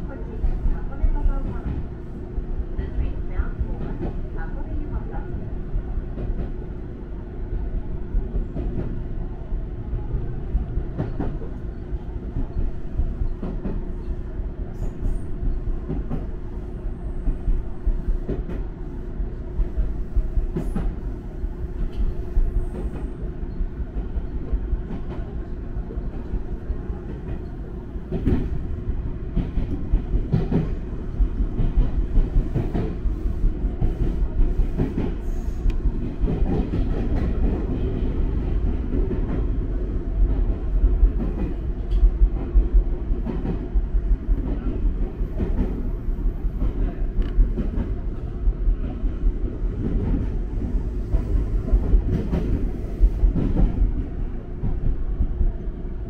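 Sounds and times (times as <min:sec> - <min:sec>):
electric train rumble and hum: 0:00.0 - 0:56.0.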